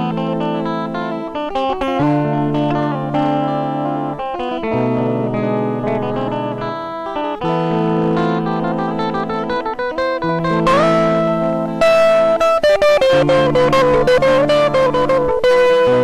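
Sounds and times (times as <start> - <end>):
instrumental guitar music: 0.0 - 16.0.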